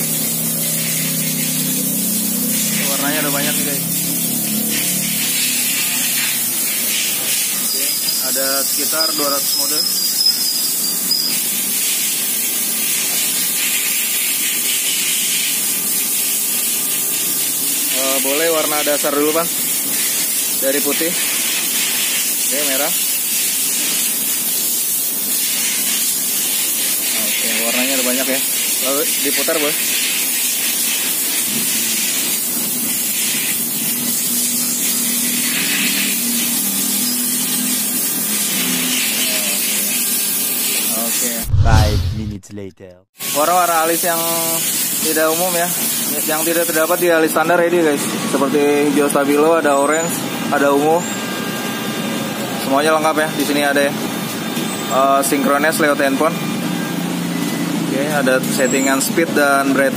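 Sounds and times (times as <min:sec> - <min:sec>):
steady loud hiss: 0:00.0 - 0:48.7.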